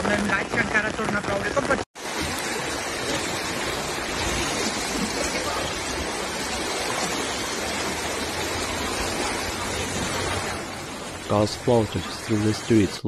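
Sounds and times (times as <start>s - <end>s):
floodwater rushing down a street: 0.0s - 13.0s.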